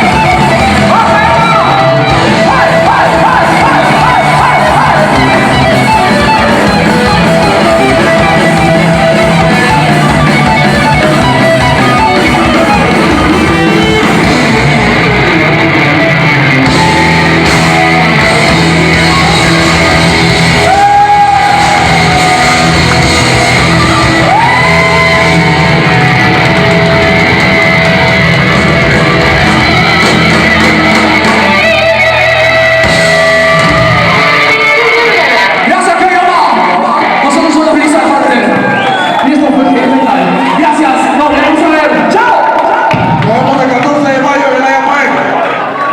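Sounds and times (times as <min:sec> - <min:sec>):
heavy metal band playing live: 0:00.0 - 0:45.3
distorted electric guitar: 0:00.0 - 0:45.9
drums: 0:00.0 - 0:45.9.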